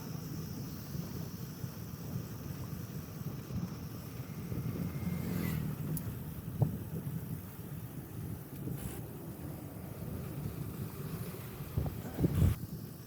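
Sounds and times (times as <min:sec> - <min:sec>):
vehicle rumbling on road: 0:00.0 - 0:13.0
wind on microphone: 0:00.4 - 0:13.0.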